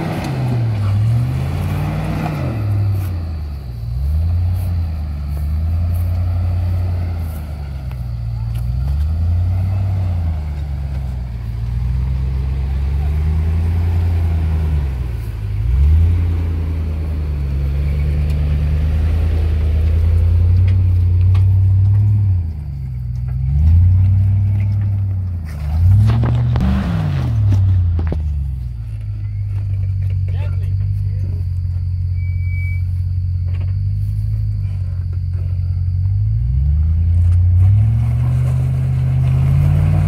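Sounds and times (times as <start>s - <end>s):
car engine revving: 0.0s - 31.9s, 33.3s - 40.0s.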